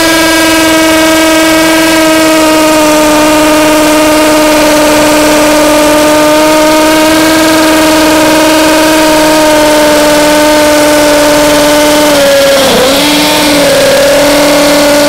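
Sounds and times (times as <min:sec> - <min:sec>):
hammer drill boring into concrete: 0:00.0 - 0:15.0.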